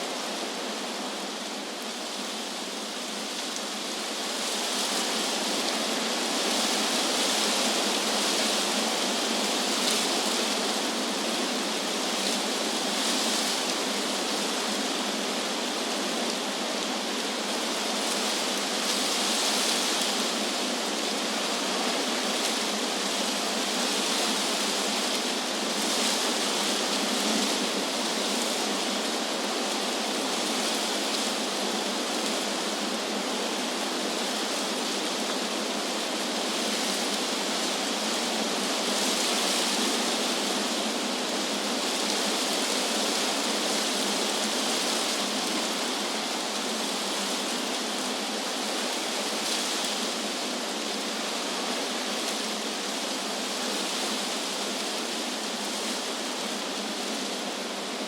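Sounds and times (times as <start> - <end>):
wind through trees: 0.0 - 58.0.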